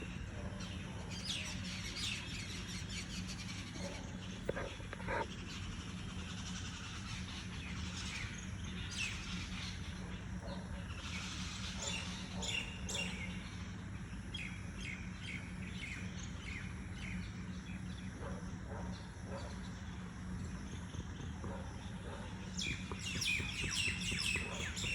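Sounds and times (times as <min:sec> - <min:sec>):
small birds chirping: 0:00.0 - 0:24.9
steady low hum: 0:00.0 - 0:24.9.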